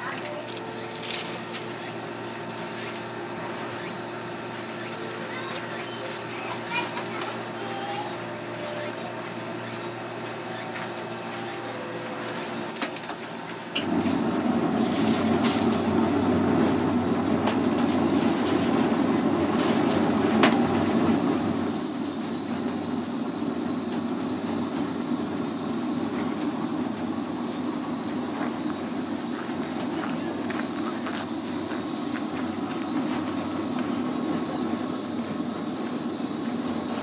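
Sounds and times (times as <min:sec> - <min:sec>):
ice cream machine rumbling: 0:00.0 - 0:37.0.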